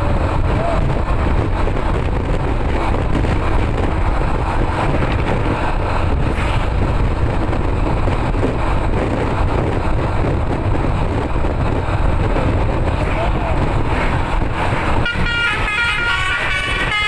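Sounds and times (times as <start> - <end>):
vehicle road and engine rumble: 0.0 - 17.0
wind buffeting microphone: 0.0 - 17.0.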